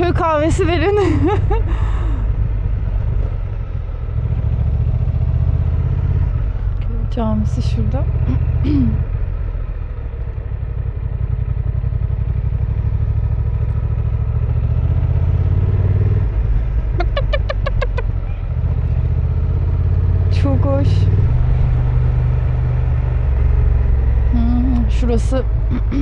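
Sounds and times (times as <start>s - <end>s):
motorcycle engine at low speed: 0.0s - 26.0s.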